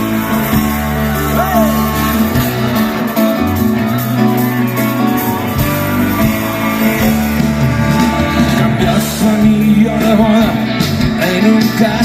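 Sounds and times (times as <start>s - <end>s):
electric guitars: 0.0s - 12.0s
rock band playing: 0.0s - 12.0s.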